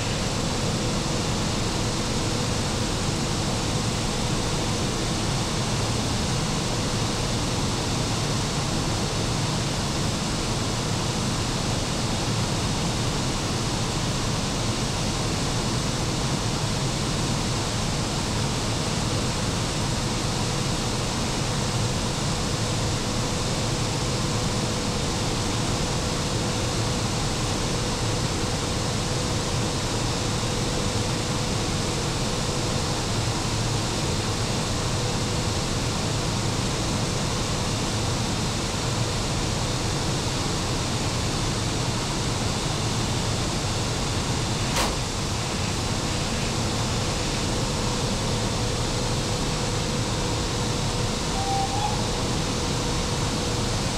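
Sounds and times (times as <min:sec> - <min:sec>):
cooling fan air rushing: 0:00.0 - 0:53.9.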